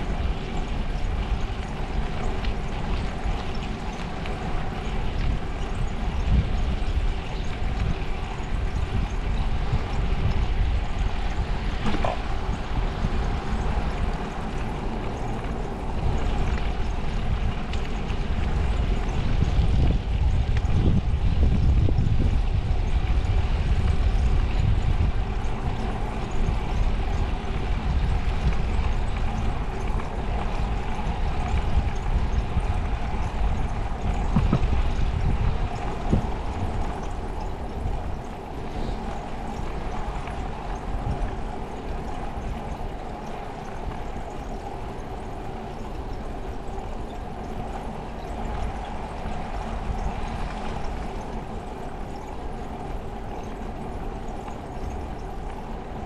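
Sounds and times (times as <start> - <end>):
bicycle road noise rumble: 0.0 - 56.0
wind buffeting microphone: 0.0 - 56.0.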